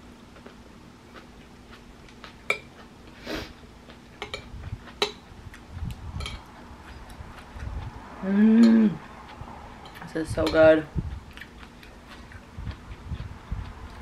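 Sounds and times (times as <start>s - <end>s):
soft chewing: 0.3s - 14.0s.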